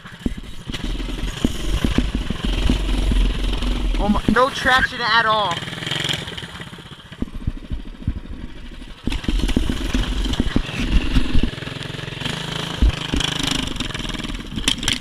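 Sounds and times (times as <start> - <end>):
mini bike engine revving: 0.0 - 15.0.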